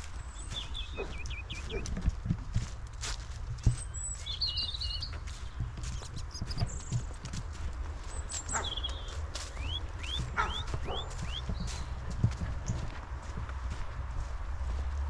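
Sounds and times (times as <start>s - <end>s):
footsteps on forest path: 0.0s - 15.0s
small birds chirping: 0.0s - 15.0s
wind rumble on microphone: 0.0s - 15.0s.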